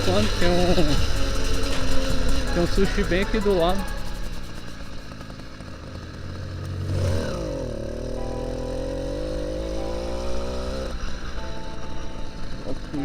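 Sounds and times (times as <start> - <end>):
motorized bicycle engine: 0.0 - 13.0.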